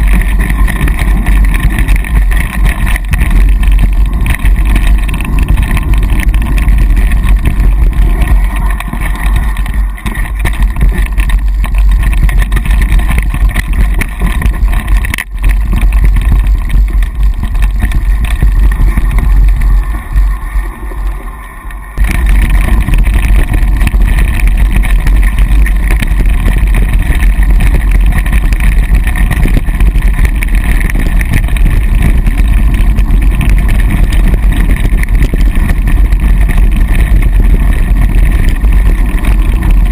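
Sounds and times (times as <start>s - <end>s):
wind buffeting microphone: 0.0s - 21.2s, 21.9s - 39.9s
bike tyres rattling on dirt: 0.0s - 39.9s.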